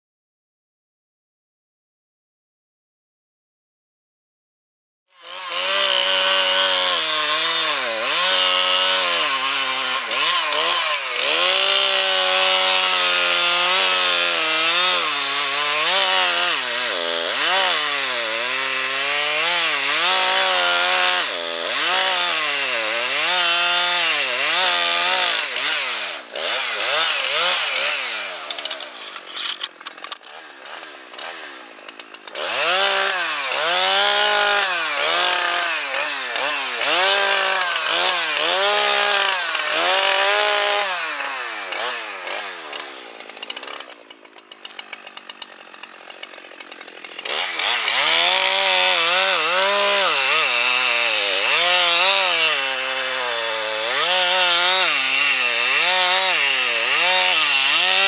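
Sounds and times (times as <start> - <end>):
chainsaw cutting through trunk: 5.1 - 58.0.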